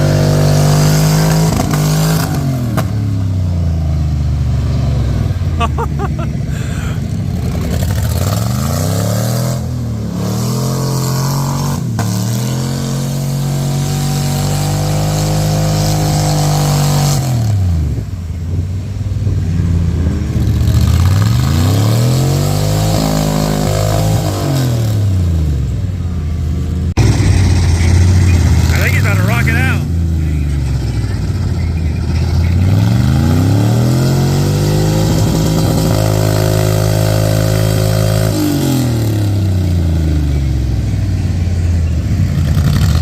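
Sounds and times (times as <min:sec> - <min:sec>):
truck engine revving: 0:00.0 - 0:18.3, 0:19.2 - 0:40.6.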